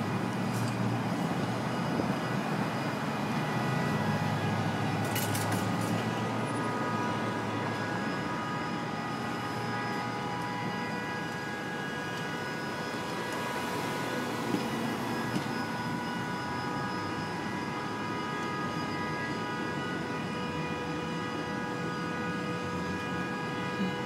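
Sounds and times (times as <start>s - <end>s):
busy street traffic: 0.0s - 24.0s
faint steady whine: 0.0s - 24.0s.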